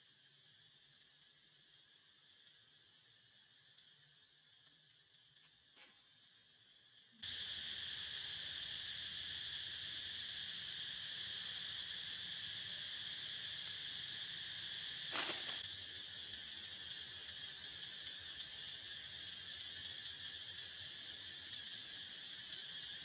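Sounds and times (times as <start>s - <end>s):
insect chorus chirring: 0.0s - 23.0s.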